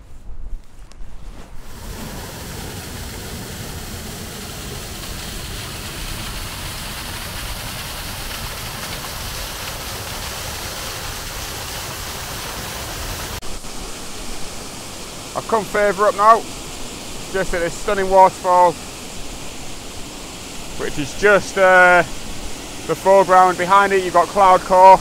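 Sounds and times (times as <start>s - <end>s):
waterfall rushing over rocks: 1.6s - 25.0s.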